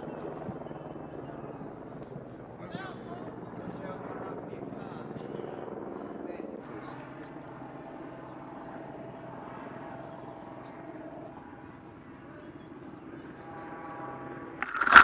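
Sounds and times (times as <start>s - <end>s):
distant aircraft engine drone: 0.0s - 15.0s.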